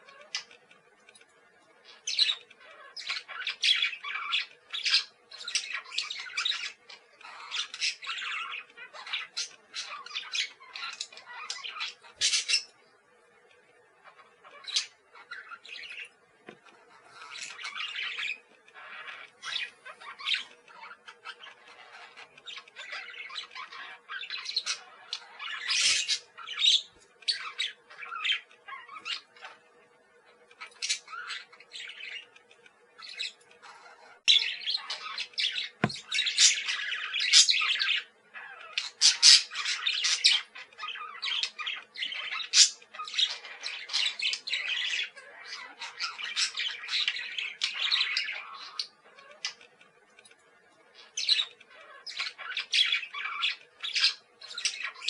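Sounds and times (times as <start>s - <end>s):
parakeets chirping and squawking: 0.0s - 55.0s.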